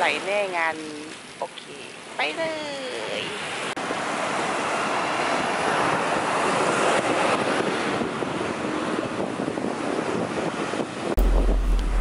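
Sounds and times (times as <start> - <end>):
small waves washing up beach: 0.0 - 12.0.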